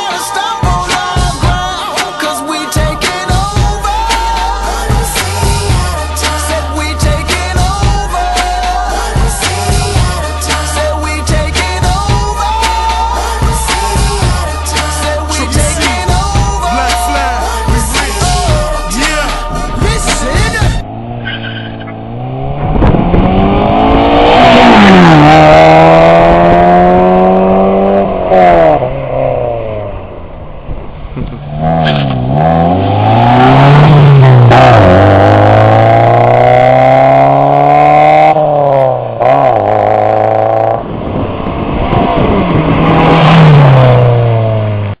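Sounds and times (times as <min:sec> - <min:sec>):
car engine revving with loud exhaust: 0:03.2 - 0:45.0.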